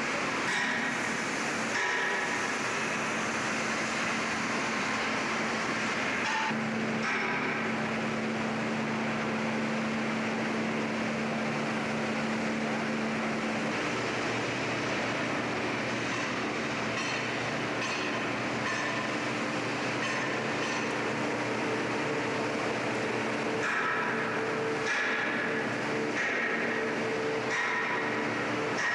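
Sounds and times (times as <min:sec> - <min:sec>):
industrial machinery hum: 0:00.0 - 0:28.9.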